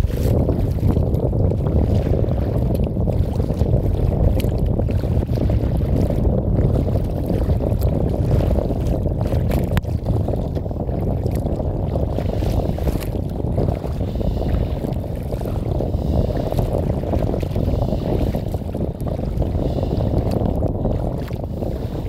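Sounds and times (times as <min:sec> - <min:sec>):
light water splashes: 0:00.0 - 0:22.0
wind buffeting microphone: 0:00.0 - 0:22.0.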